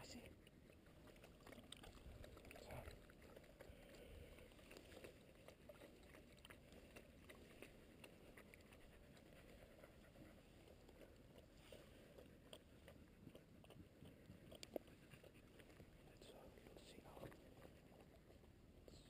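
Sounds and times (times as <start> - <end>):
faint small ticks and rustles: 0.0 - 19.0.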